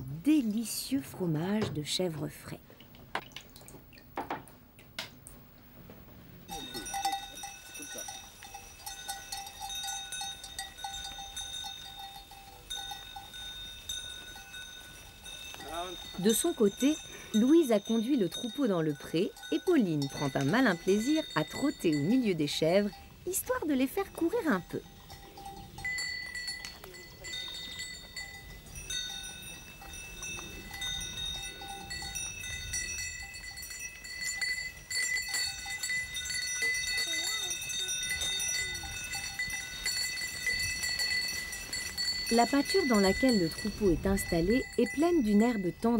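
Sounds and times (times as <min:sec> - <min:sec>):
goat bells clanking: 0:06.5 - 0:45.9
light bell jingling: 0:06.5 - 0:45.9.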